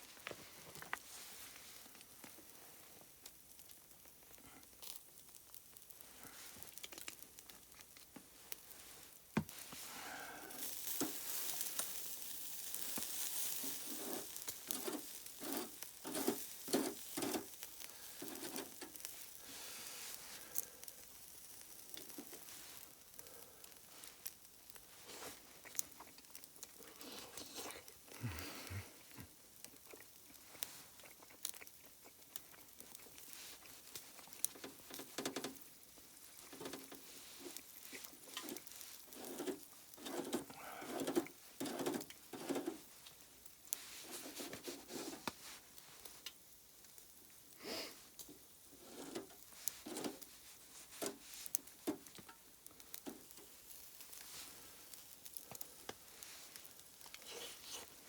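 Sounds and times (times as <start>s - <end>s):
sizzling hiss: 0.0s - 58.0s.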